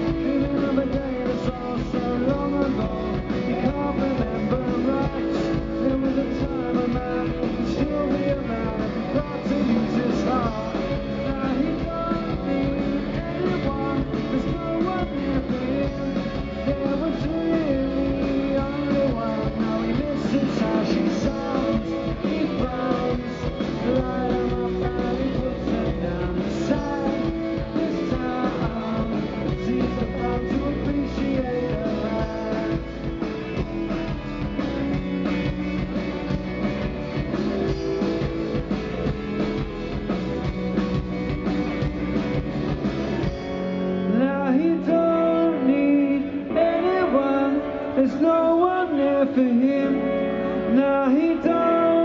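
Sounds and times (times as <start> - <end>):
man singing lead vocal: 0.0 - 33.9, 43.5 - 52.0
drum kit: 0.0 - 50.1
bass guitar: 0.0 - 52.0
electric guitars: 0.0 - 52.0.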